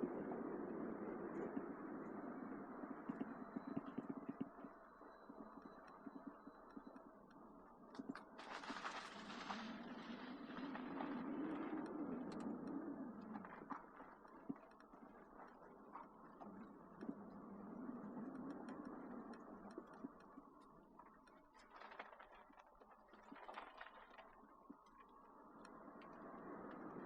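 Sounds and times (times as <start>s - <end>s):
small irregular ticks: 0.8s - 27.0s.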